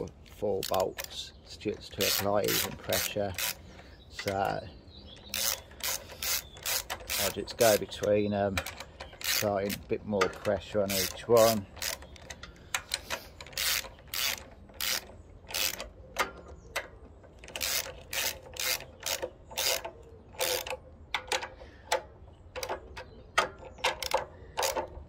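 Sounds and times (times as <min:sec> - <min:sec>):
socket ratchet clicking: 0:01.9 - 0:25.0.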